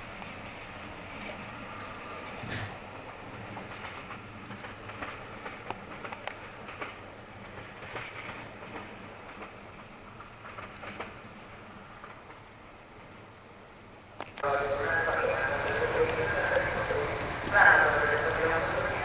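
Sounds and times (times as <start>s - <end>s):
train wheels clicking over rail joints: 0.0s - 12.5s, 14.7s - 19.0s
train rumble: 0.0s - 19.0s.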